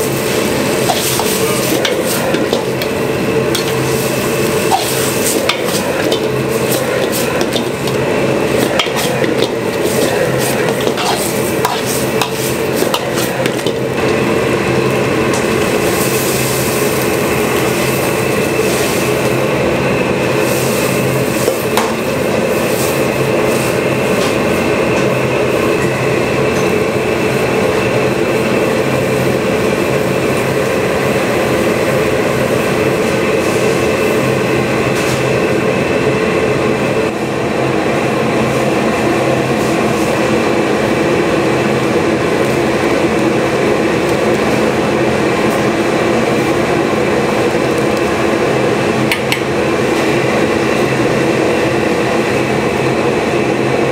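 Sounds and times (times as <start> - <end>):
mechanical drone with low hum: 0.0 - 53.9.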